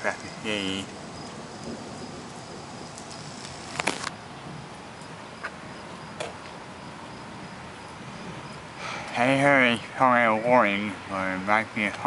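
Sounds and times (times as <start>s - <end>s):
faint high insect chirring: 0.0s - 9.8s.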